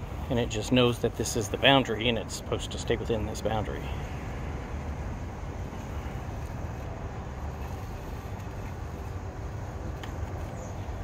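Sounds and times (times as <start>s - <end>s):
outdoor hiss: 0.0s - 11.0s.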